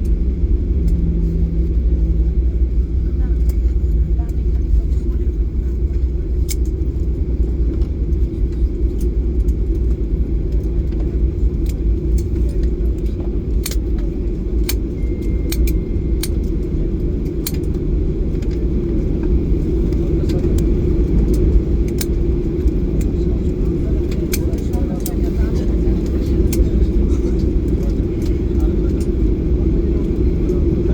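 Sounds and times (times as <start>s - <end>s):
airplane rolling on ground: 0.0s - 30.9s
light clicks and rattles: 2.8s - 30.9s.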